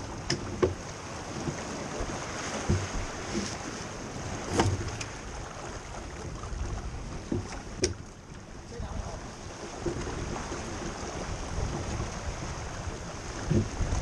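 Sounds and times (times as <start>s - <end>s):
water rushing past hull: 0.0s - 14.0s
wind buffeting microphone: 0.0s - 14.0s.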